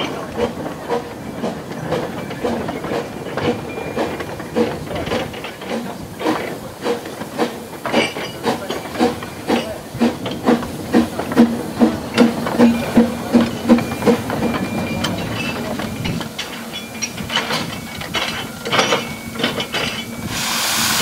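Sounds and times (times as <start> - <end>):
steam hissing: 0.0 - 21.0
steam locomotive chuffing: 0.0 - 21.0.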